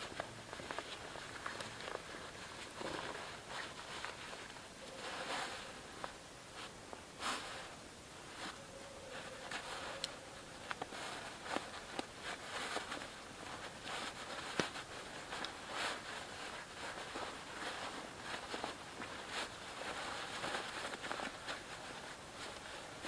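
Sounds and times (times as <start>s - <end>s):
tarpaulin rustling: 0.0s - 23.0s.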